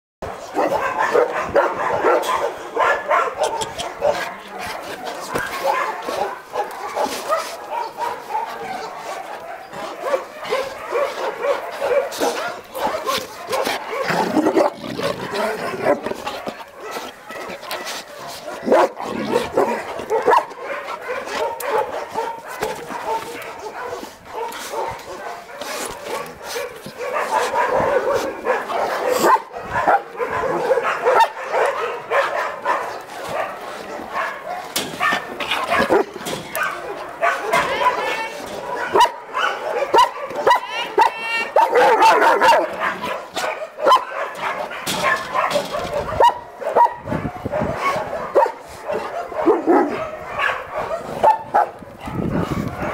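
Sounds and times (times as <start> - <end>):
dogs barking and yipping: 0.2 - 52.9.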